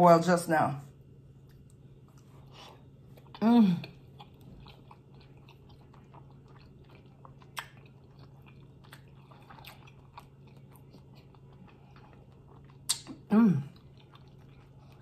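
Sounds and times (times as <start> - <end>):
chewing mouth sounds: 1.4 - 15.0.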